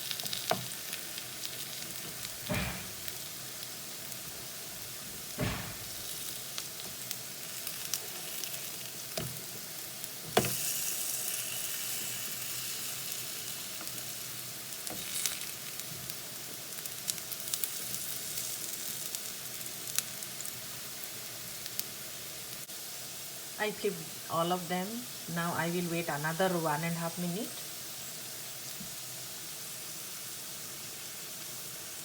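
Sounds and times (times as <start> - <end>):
slices sizzling in hot oil: 0.0 - 32.0.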